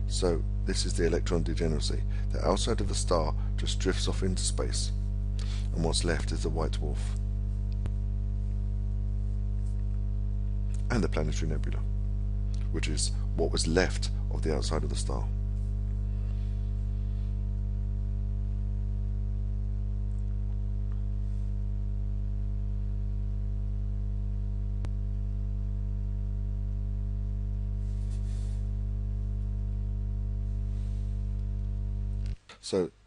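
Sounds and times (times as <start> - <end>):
low synthesizer drone: 0.0 - 32.4.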